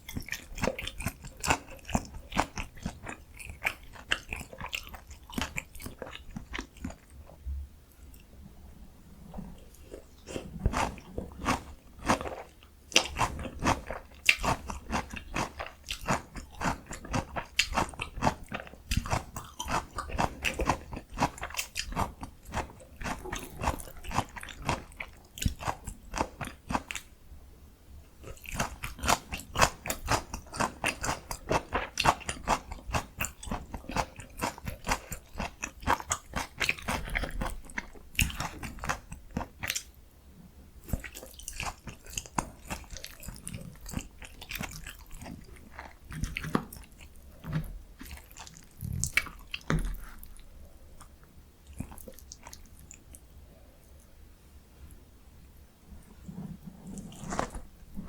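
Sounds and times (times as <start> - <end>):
crunching and chewing fried food: 0.0 - 7.4, 9.6 - 27.1, 28.2 - 40.0, 40.8 - 54.1, 56.0 - 58.0.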